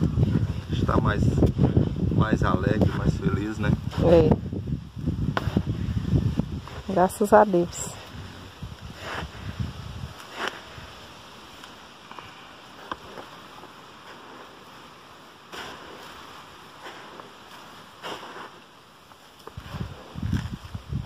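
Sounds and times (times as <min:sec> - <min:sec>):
background hiss: 0:00.0 - 0:21.0
grain rustling: 0:00.0 - 0:21.0.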